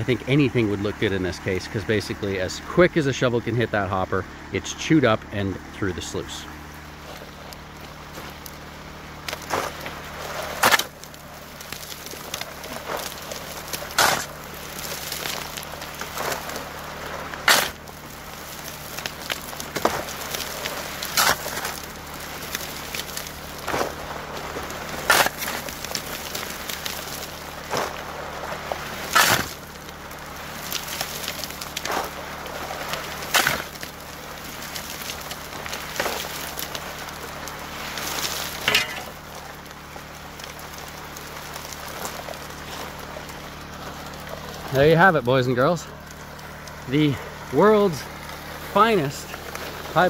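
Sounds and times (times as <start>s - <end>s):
gravel dumped into hopper: 0.0s - 50.0s
low pump hum: 0.0s - 50.0s
water rushing through sluice: 0.0s - 50.0s.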